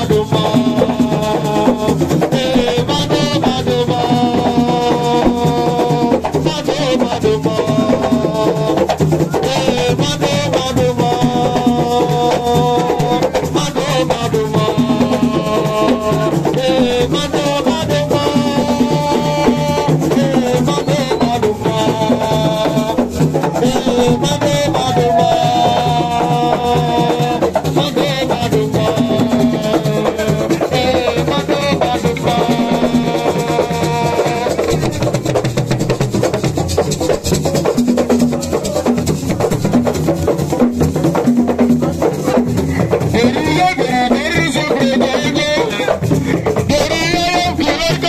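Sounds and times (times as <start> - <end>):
wooden frame drums struck by hand: 0.0 - 48.0.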